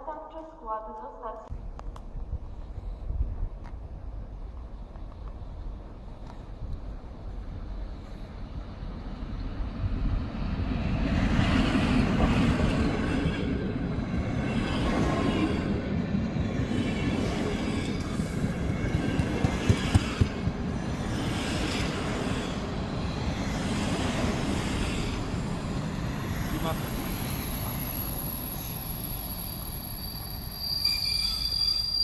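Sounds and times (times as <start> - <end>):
train wheels rolling rumble: 1.6 - 31.4.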